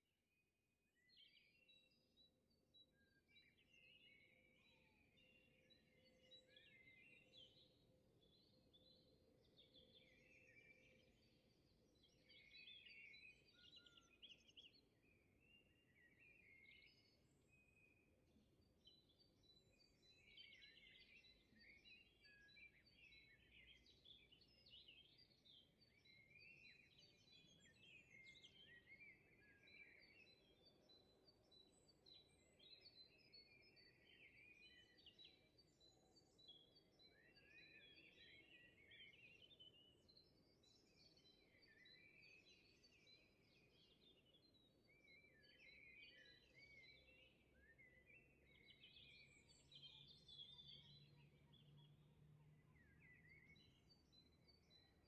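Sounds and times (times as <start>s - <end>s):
small birds chirping: 2.8s - 55.0s.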